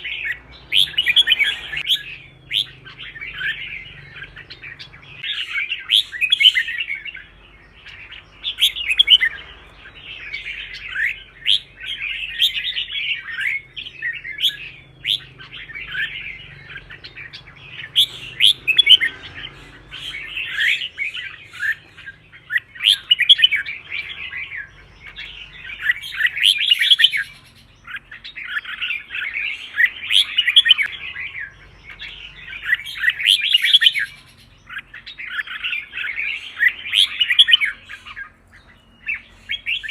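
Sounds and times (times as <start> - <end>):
bird singing chirpy phrases: 0.0 - 39.9.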